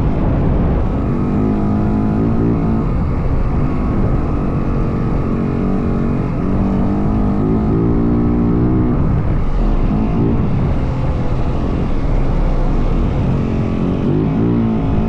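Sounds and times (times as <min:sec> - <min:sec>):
wind noise: 0:00.0 - 0:15.0
dirt bike engine revving: 0:00.8 - 0:15.0.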